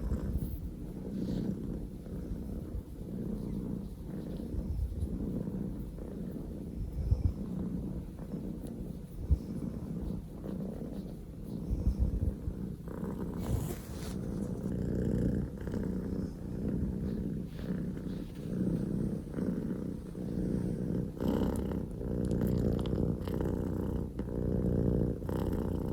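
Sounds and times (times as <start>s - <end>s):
kitten purring: 0.0s - 25.9s.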